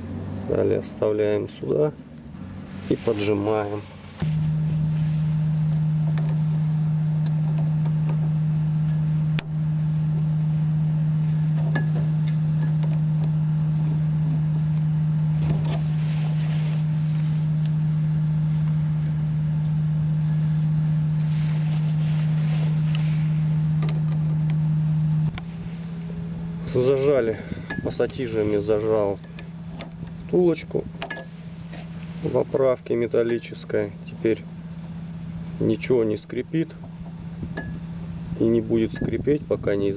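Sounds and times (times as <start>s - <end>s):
loud steady low hum: 0.0s - 39.9s.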